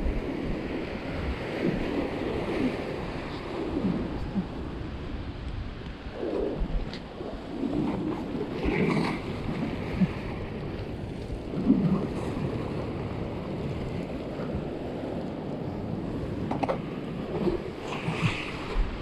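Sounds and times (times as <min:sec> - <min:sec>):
sea waves washing over rocks: 0:00.0 - 0:19.0
wind noise on microphone: 0:00.0 - 0:19.0.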